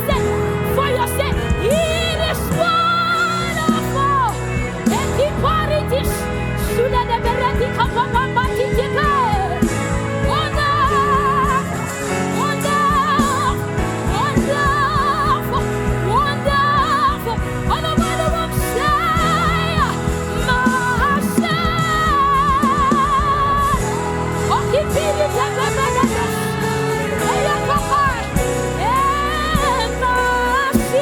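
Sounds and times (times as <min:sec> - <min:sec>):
band accompaniment: 0:00.0 - 0:31.0
solo voice singing with vibrato: 0:00.0 - 0:31.0.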